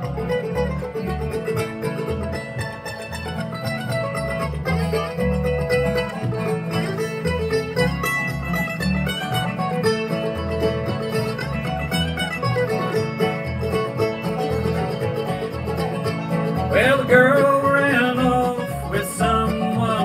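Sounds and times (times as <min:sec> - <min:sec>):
acoustic guitar picking: 0:00.0 - 0:20.0
banjo picking: 0:00.0 - 0:20.0
mandolin picking: 0:00.0 - 0:20.0
upright bass plucking: 0:00.0 - 0:20.0.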